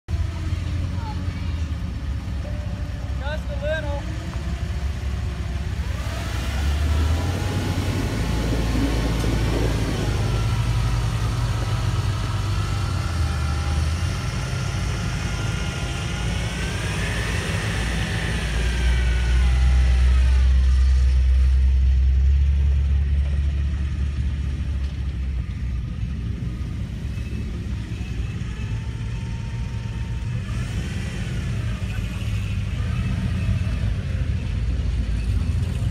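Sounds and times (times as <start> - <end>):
truck engine revving: 0.1 - 35.9.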